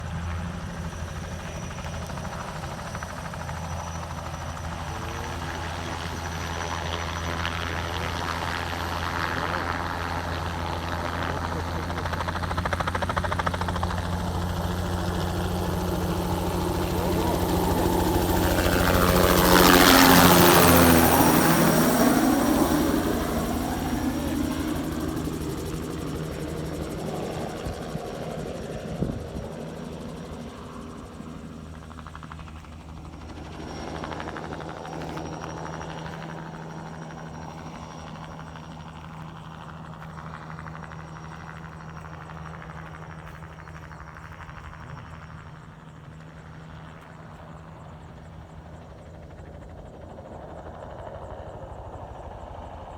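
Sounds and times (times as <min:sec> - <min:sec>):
distant rotor drone: 0:00.0 - 0:52.9
helicopter passing low: 0:00.0 - 0:52.9.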